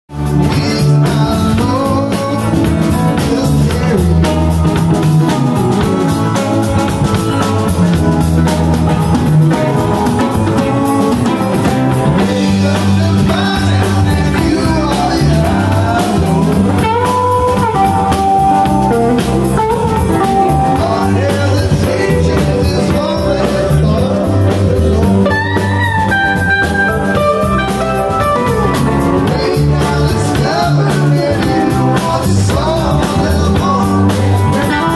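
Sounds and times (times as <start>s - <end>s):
electric guitar held lead notes: 0.1s - 34.9s
live band playing instrumental: 0.1s - 34.9s.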